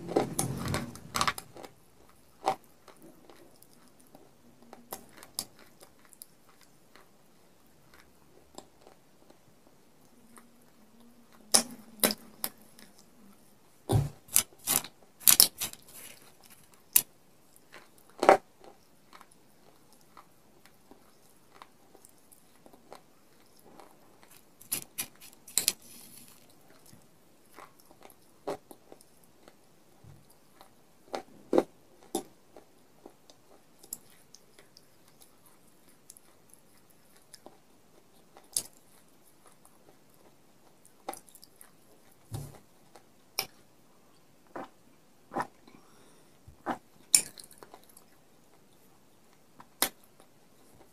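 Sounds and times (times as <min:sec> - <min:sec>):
chewing hard crunchy clay: 0:00.0 - 0:10.7, 0:11.3 - 0:43.7, 0:44.4 - 0:50.9.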